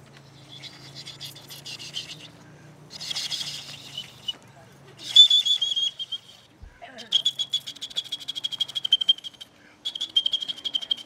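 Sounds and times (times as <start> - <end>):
whistle fluttering trill: 0.5 - 2.3, 2.9 - 4.4, 5.0 - 11.0.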